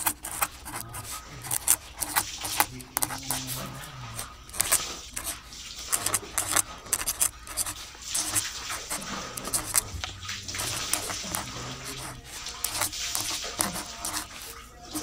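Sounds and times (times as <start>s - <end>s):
paper strips rustling in cardboard: 0.0s - 15.0s.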